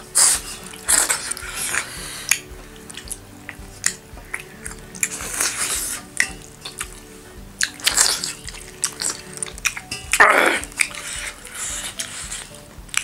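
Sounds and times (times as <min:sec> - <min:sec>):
soft background music: 0:00.0 - 0:13.0
chewing and lip smacking: 0:00.1 - 0:07.0, 0:07.6 - 0:13.0.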